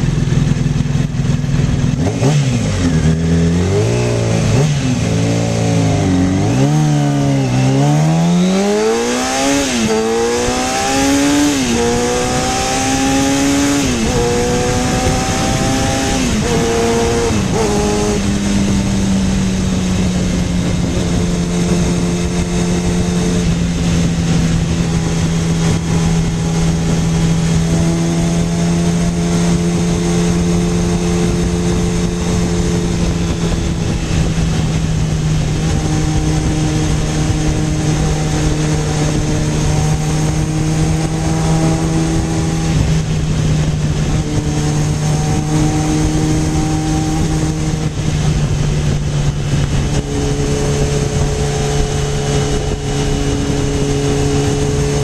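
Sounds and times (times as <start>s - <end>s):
motorcycle engine upshifting: 0.0s - 55.0s
wind on microphone: 0.0s - 55.0s.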